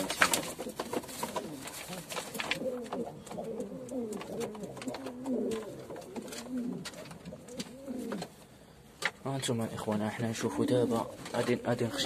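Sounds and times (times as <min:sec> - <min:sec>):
pigeons cooing: 0:00.0 - 0:08.8, 0:10.3 - 0:12.0.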